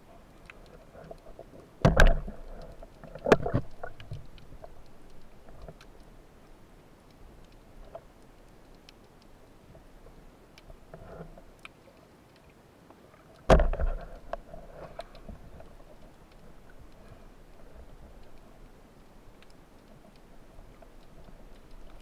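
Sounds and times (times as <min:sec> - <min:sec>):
faint underwater clicks: 0:00.0 - 0:22.0.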